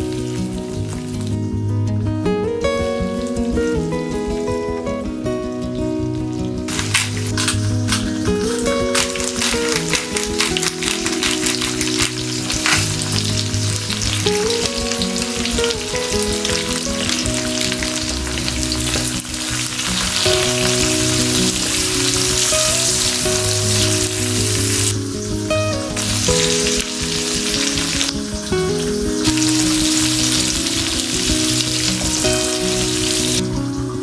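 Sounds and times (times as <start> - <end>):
food sizzling in a hot pan: 0.0 - 1.4, 6.7 - 33.8
background music: 0.0 - 34.0.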